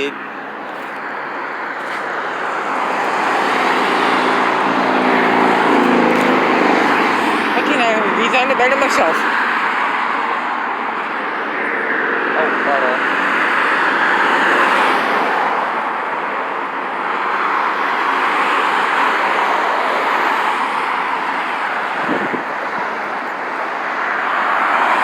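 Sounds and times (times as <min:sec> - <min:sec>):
tyres hissing on road: 0:00.0 - 0:12.3, 0:12.9 - 0:25.0.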